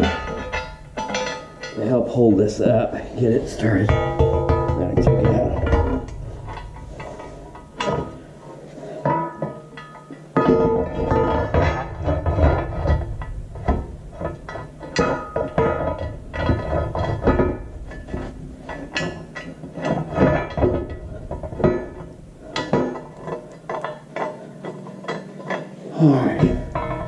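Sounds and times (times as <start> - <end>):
light metal clinks and knocks: 0.0 - 27.0.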